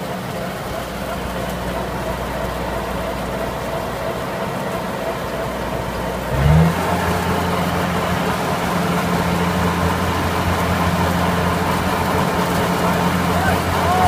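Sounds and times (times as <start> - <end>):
combine harvester engine revving: 0.0 - 14.0.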